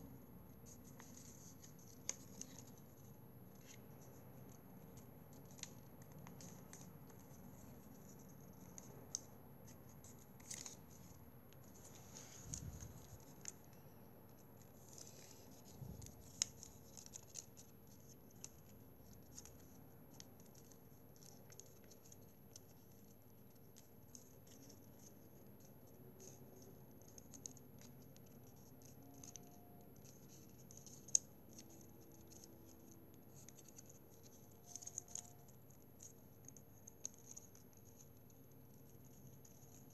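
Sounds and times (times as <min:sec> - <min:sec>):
faint steady hum: 0:00.0 - 0:39.9
small ticks and scrapes: 0:00.5 - 0:39.9
paper rustling and crinkling: 0:00.6 - 0:39.9.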